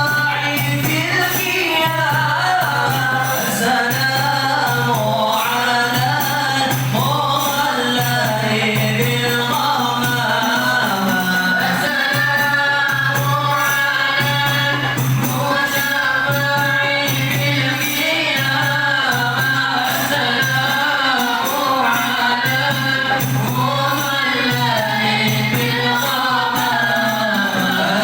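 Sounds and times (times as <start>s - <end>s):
frame drums beating: 0.0s - 28.0s
group singing in chorus: 0.0s - 28.0s.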